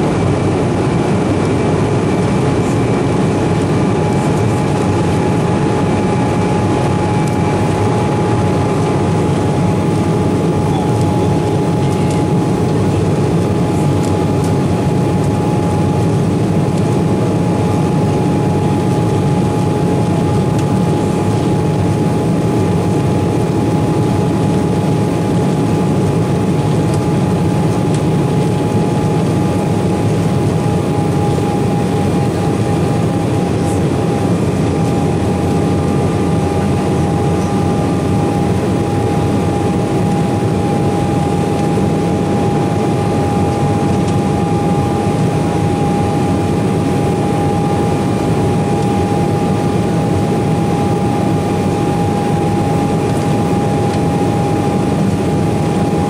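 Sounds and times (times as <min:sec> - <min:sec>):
jet engines roaring in cabin: 0:00.0 - 0:56.0.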